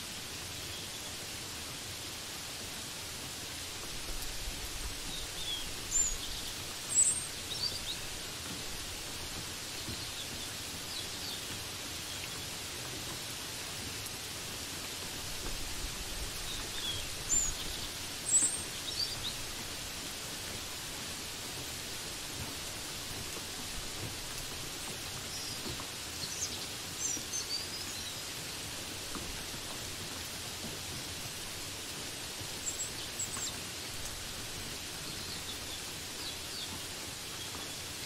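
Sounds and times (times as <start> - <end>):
rain hissing: 0.0 - 38.0.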